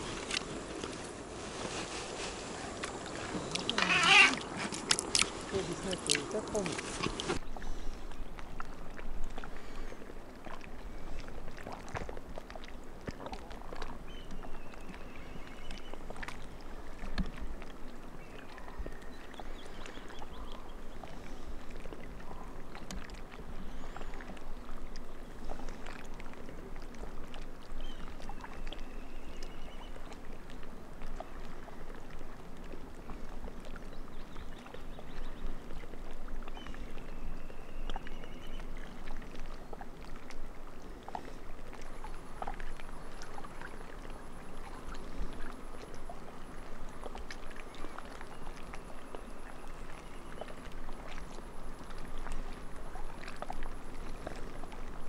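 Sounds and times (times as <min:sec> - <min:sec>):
small waves lapping: 0:00.0 - 0:55.0
water splashing: 0:00.0 - 0:55.0.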